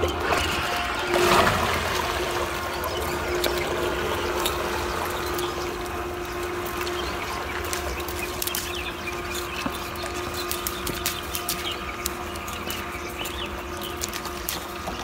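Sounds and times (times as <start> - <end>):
electric motor whine: 0.0 - 15.0
net and floats rustling and clicking: 0.0 - 15.0
water lapping: 0.0 - 15.0.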